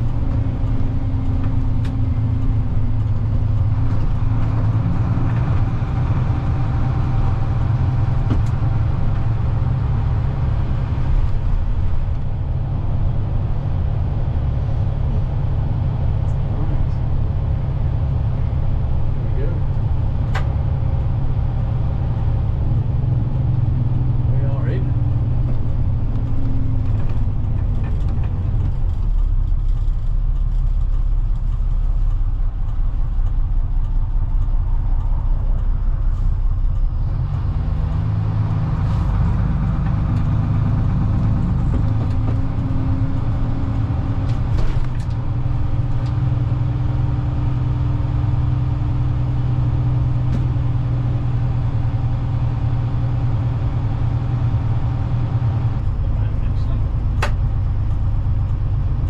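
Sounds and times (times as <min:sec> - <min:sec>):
coach diesel engine droning: 0:00.0 - 0:59.0.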